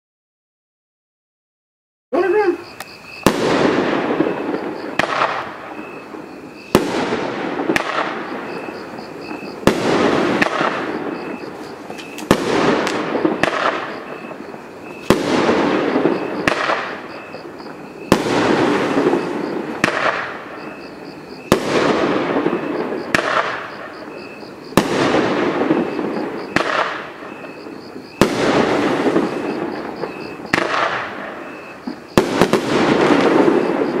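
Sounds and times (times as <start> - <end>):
firework crackling hissing tail: 2.2 - 34.0
firework sharp bangs: 2.2 - 34.0.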